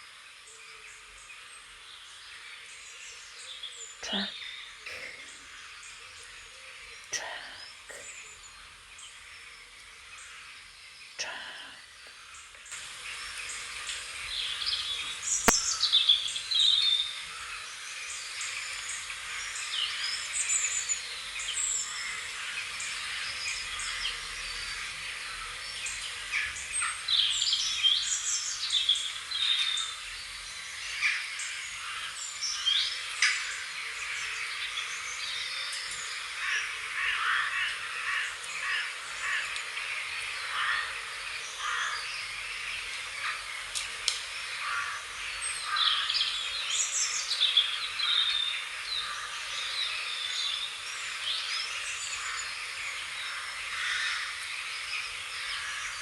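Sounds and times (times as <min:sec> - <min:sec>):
small birds chirping and singing: 0:00.0 - 0:56.0.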